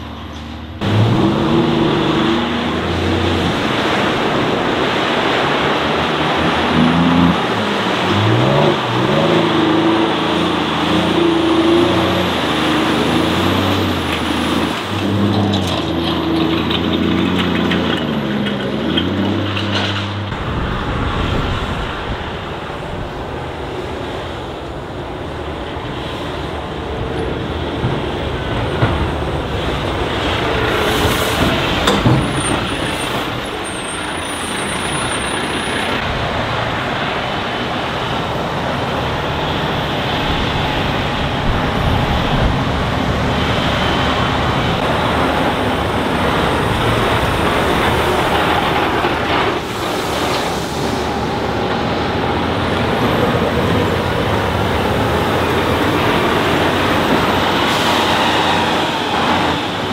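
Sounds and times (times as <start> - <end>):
diesel truck engines rumbling: 0.0 - 59.9
tyre and chassis noise: 0.0 - 59.9.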